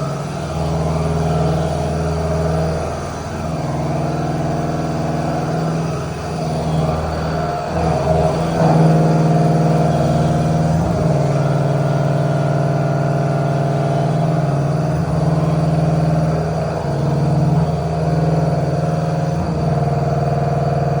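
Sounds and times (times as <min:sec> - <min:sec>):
machine humming steadily: 0:00.0 - 0:21.0.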